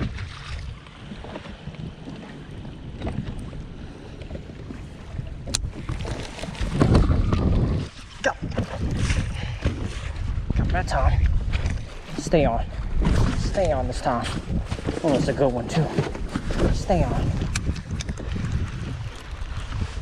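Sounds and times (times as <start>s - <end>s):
wind gusting across microphone: 0.0s - 20.0s.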